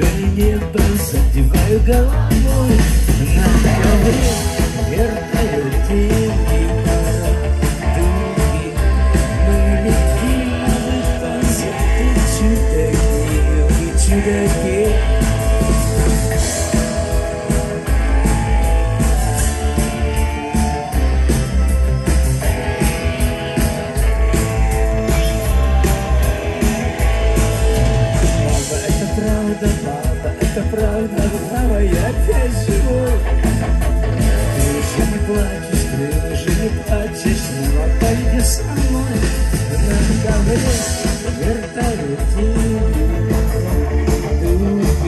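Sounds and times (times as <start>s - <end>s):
amplified guitar: 0.0s - 45.0s
drums: 0.0s - 45.0s
heavy bass: 0.0s - 45.0s
live rock band playing: 0.0s - 45.0s.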